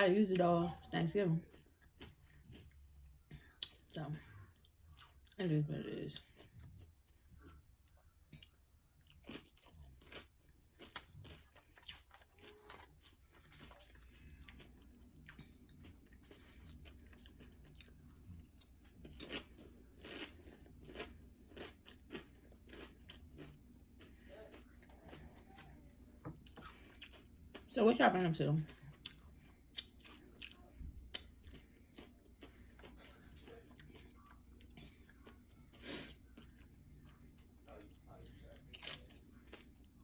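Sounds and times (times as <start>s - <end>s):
chewing crunchy chips: 0.6s - 3.9s, 6.1s - 27.7s, 28.7s - 40.0s.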